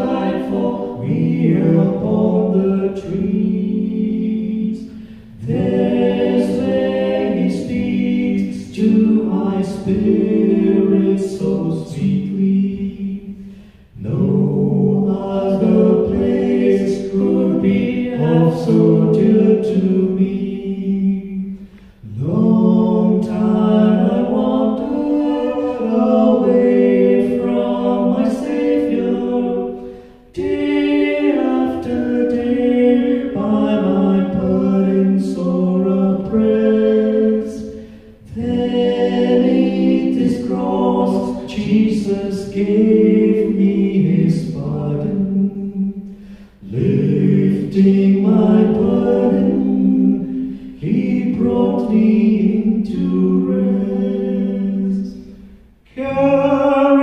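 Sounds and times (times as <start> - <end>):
man and woman singing: 0.0 - 57.0.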